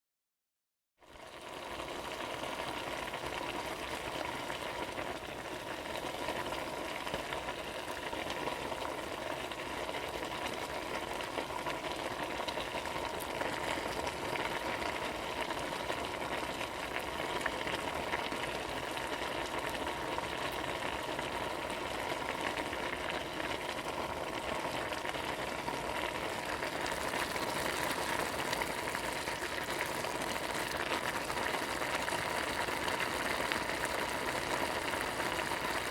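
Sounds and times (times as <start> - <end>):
food sizzling in a pan: 1.0 - 35.9.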